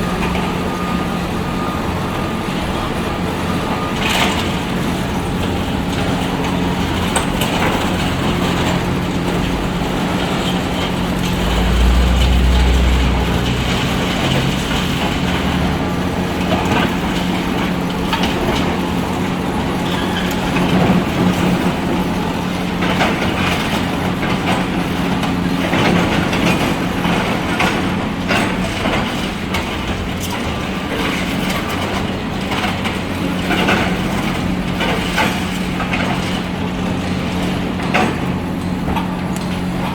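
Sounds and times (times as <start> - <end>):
excavator diesel engine running: 0.0 - 39.9
demolition debris knocking and scraping: 2.3 - 39.9.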